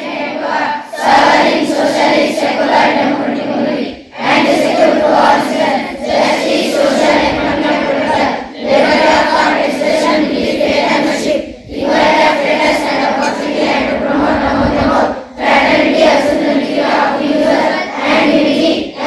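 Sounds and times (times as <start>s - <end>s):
children reciting in unison: 0.0s - 19.0s.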